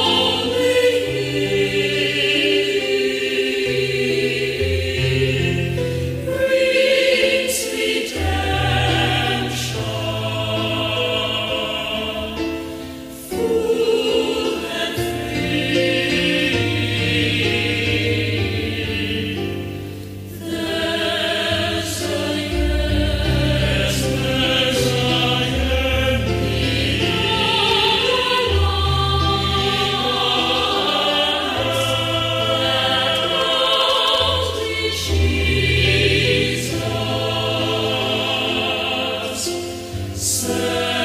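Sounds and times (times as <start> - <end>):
choir singing held chords: 0.0 - 41.0.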